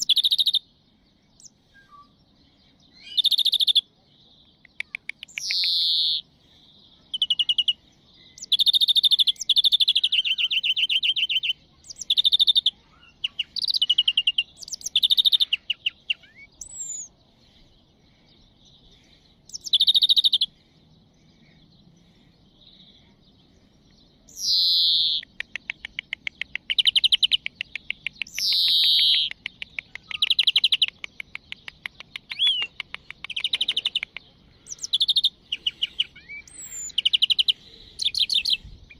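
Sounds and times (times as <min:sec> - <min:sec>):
finch twittering trills: 0:04.8 - 0:38.9.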